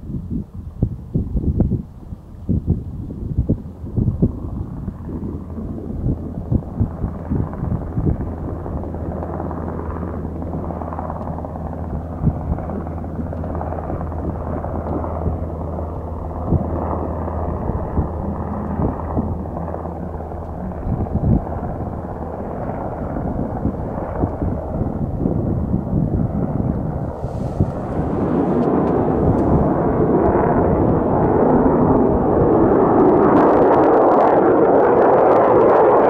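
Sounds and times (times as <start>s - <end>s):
steady low rumble: 0.0s - 36.0s
wind buffeting microphone: 0.0s - 36.0s.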